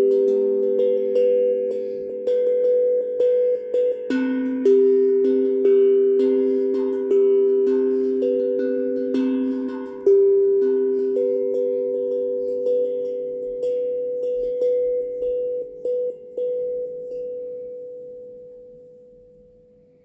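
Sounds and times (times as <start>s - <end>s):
steel tongue drum melody: 0.0s - 20.0s.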